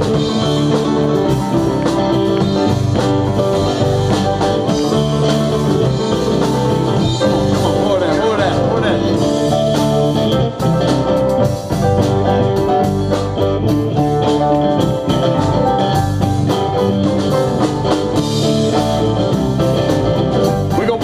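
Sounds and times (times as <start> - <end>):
electric guitar: 0.0 - 21.0
keyboard: 0.0 - 21.0
steady drum beat: 0.0 - 21.0.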